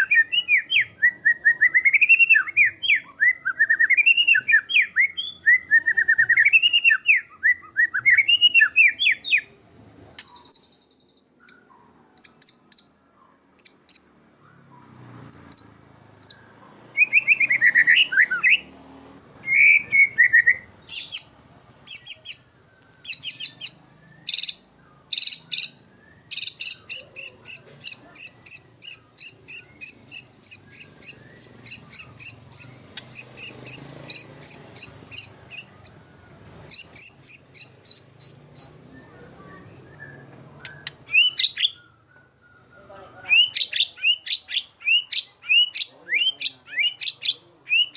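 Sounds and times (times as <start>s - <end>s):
songbird singing varied song: 0.0s - 47.9s.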